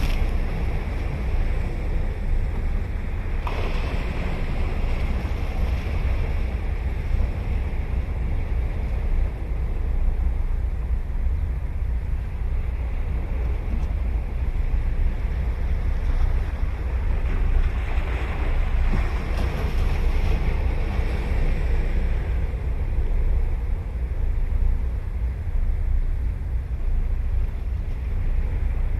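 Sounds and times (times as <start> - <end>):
ocean surf breaking: 0.0 - 11.0, 11.6 - 25.0
wind buffeting microphone: 0.0 - 28.9.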